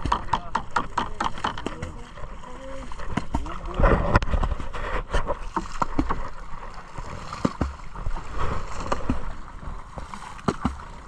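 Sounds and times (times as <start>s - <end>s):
water splashing and lapping: 0.0s - 11.0s.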